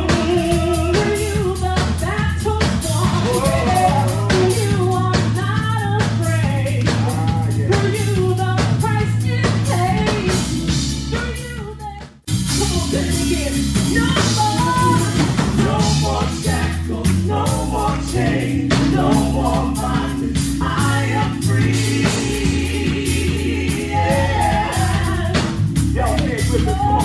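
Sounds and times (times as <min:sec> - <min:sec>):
gospel singing over a band: 0:00.0 - 0:11.4, 0:12.5 - 0:27.0
drum kit beating: 0:00.0 - 0:27.0
sustained bass notes: 0:00.0 - 0:27.0.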